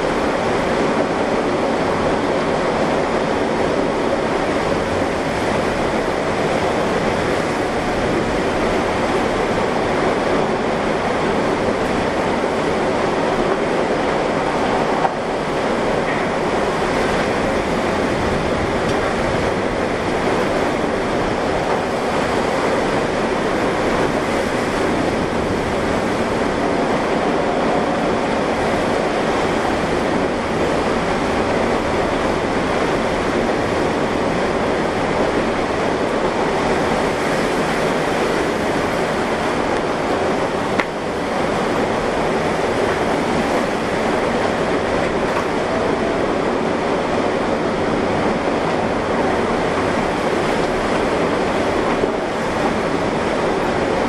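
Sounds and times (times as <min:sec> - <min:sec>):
strong wind and rain rushing: 0:00.0 - 0:54.0.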